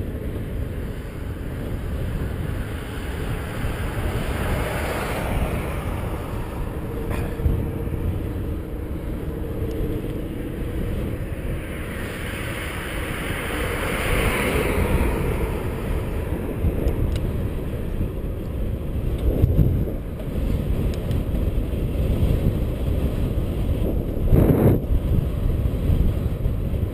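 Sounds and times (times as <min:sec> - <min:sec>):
road noise: 0:00.0 - 0:26.9
wind rushing over microphone: 0:00.0 - 0:26.9.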